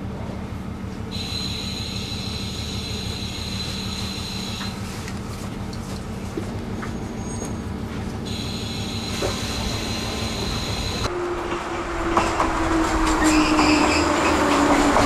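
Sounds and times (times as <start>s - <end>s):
railcar running on rails: 0.0s - 15.0s.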